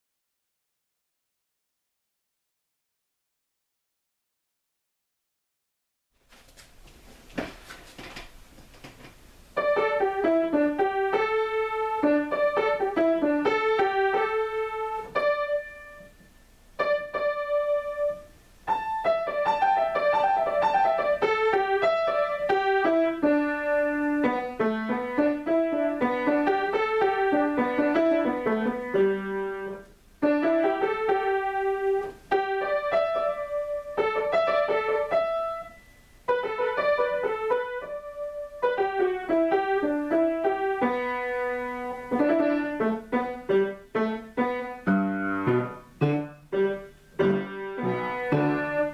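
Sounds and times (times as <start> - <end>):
solo piano improvisation: 9.5 - 48.9.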